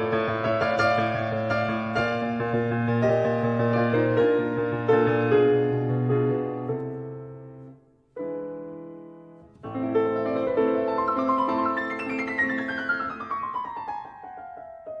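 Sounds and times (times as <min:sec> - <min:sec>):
solo piano: 0:00.0 - 0:15.0.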